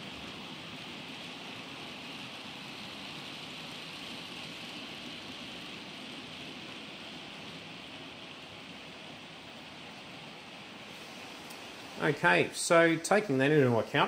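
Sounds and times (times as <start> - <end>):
model train wheels on rails: 0.0 - 14.0.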